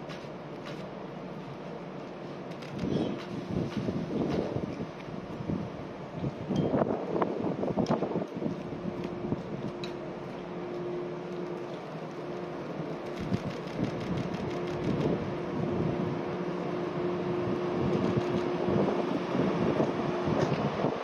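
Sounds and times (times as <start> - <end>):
electric train hum: 0.0 - 21.0
train wheel rumble: 0.0 - 21.0.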